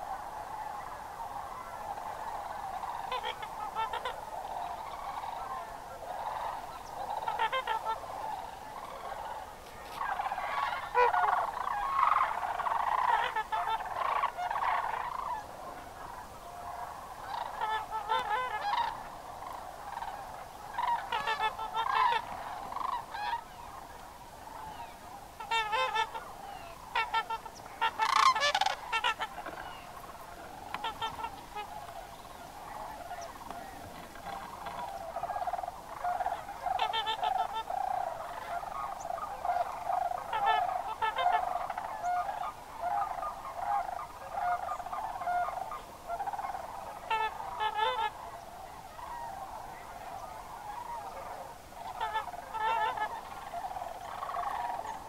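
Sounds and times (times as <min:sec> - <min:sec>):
cranes calling: 0:00.0 - 0:55.0
goose-like honking: 0:01.4 - 0:23.7, 0:24.6 - 0:55.0.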